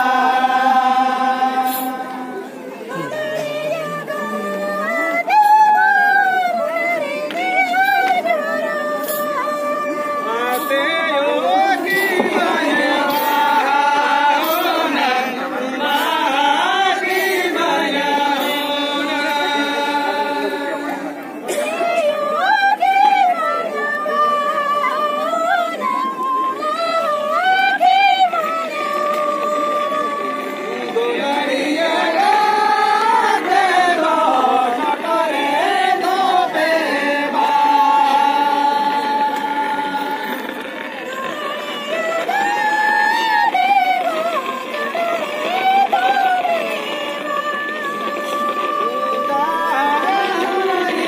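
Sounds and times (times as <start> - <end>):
women singing together: 0.0 - 51.0.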